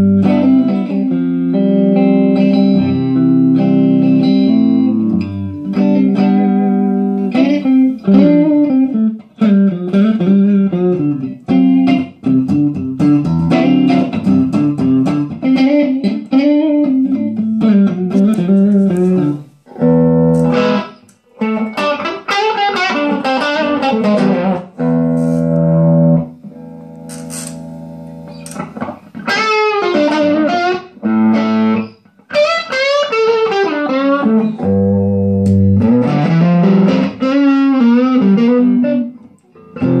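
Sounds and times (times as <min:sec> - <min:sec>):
electric guitar chords: 0:00.0 - 0:40.0
electric guitar lead lines: 0:00.0 - 0:40.0.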